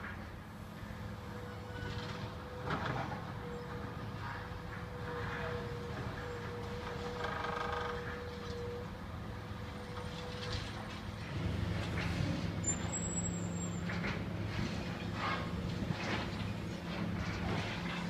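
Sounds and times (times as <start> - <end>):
excavator diesel engines droning: 0.0 - 18.0.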